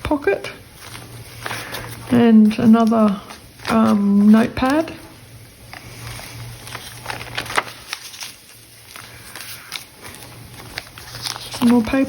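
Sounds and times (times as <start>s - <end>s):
paper pages rustling and crinkling: 0.7s - 12.0s.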